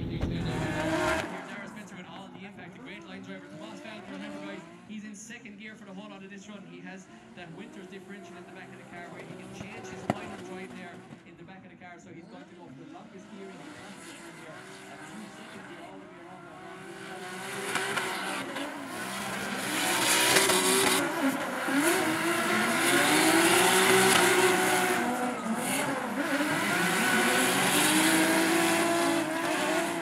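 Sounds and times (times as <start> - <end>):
car engines revving: 0.0 - 5.0, 5.8 - 11.3, 12.3 - 30.0.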